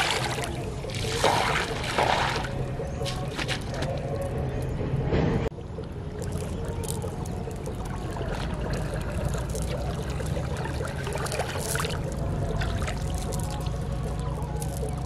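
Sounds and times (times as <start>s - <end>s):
flowing river water: 0.0s - 4.2s, 5.8s - 15.0s.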